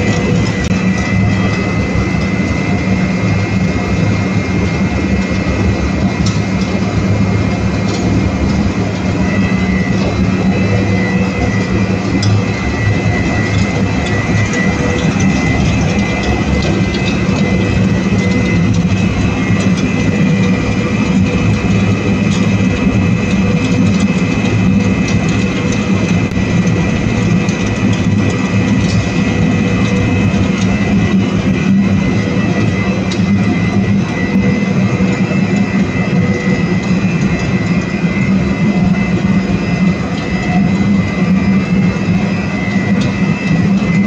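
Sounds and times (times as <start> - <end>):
grinding mill machine noise: 0.0 - 44.0
machine high whine: 0.0 - 44.0.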